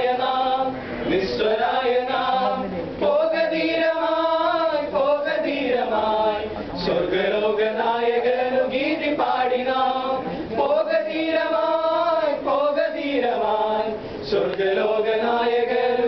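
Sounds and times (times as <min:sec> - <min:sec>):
male choir singing unaccompanied: 0:00.0 - 0:16.0.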